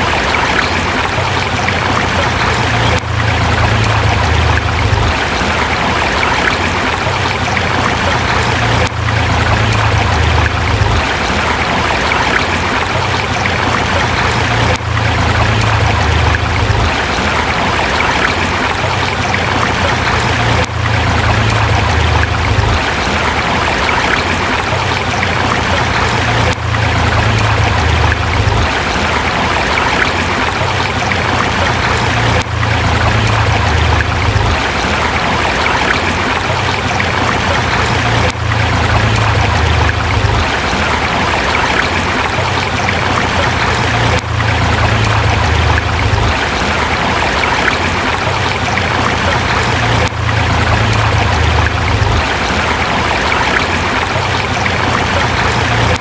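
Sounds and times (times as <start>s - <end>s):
river flowing over rocks: 0.0s - 56.0s.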